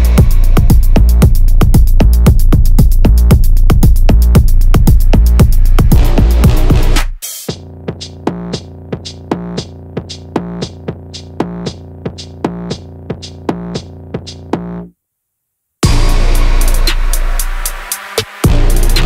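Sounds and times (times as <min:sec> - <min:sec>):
electronic music with drum beat: 0:00.0 - 0:14.9, 0:15.8 - 0:19.0.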